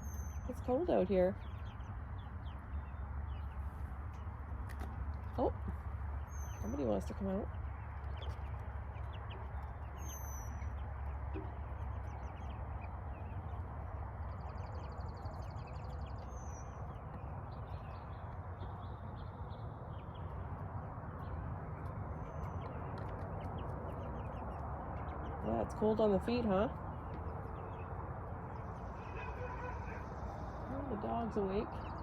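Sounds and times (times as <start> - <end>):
young chickens chirping: 0.0 - 32.0.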